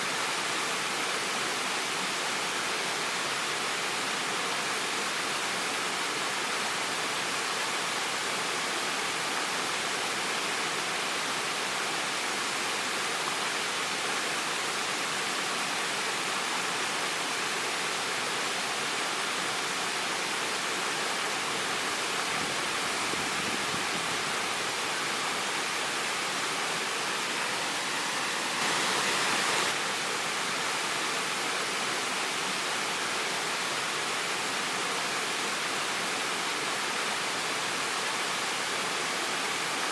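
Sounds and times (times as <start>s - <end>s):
waterfall roaring: 5.0s - 39.9s.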